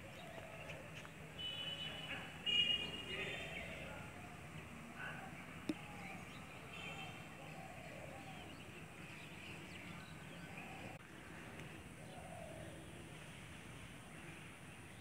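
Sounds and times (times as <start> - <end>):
distant voices: 0.0 - 15.0.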